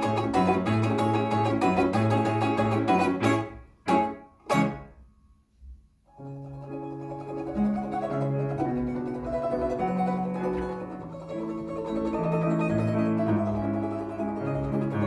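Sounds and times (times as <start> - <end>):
plucked string instrument melody: 0.0 - 5.1, 6.1 - 15.0.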